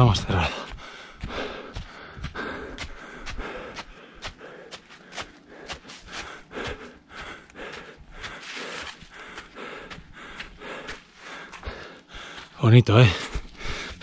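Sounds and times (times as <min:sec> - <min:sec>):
running footsteps on leaves: 0:00.0 - 0:14.0
man breathing: 0:00.5 - 0:12.6, 0:13.2 - 0:14.0.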